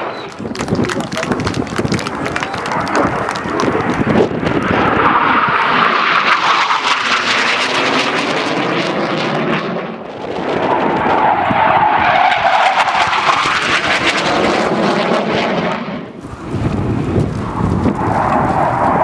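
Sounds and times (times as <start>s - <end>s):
jet engine rush and whine: 0.0s - 19.0s.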